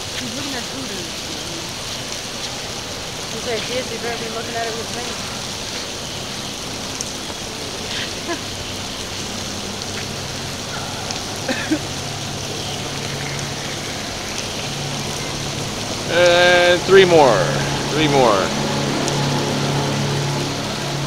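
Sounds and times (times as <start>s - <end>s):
rain hissing: 0.0s - 21.0s
motorboat engine hum: 1.2s - 21.0s.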